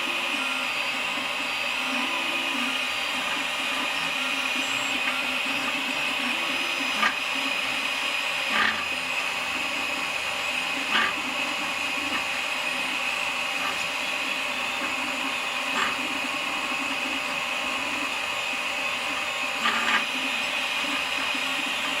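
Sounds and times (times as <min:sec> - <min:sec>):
printer motor whine: 0:00.0 - 0:22.0.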